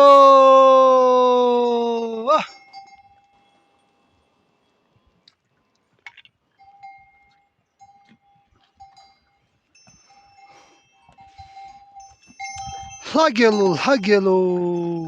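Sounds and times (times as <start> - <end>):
horse bells ringing: 0.0 - 15.0.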